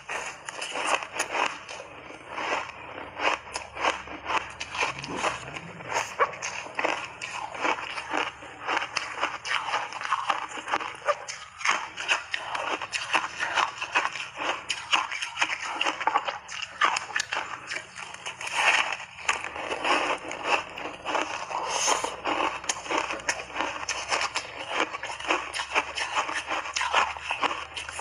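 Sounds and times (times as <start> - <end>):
ice crunching while chewed: 0.0 - 28.0.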